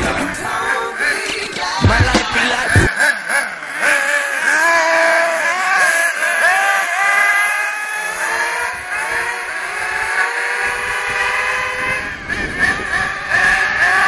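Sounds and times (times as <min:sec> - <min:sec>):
model car engine buzzing: 0:00.0 - 0:14.0.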